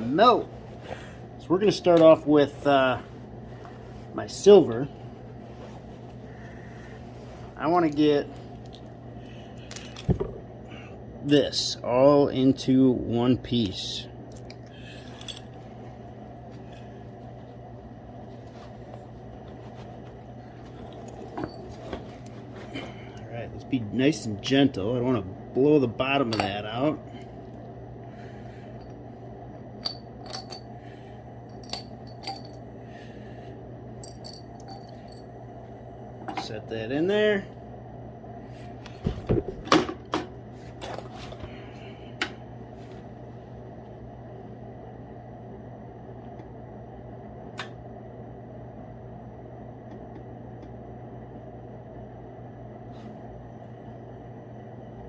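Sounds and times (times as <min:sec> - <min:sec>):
fan whirring: 0:00.0 - 0:55.0
steady low hum: 0:00.0 - 0:55.0.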